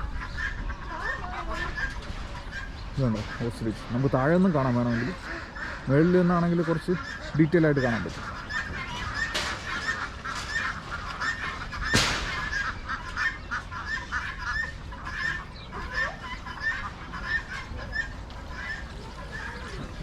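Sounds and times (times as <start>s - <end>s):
flock of poultry calling: 0.0s - 20.0s.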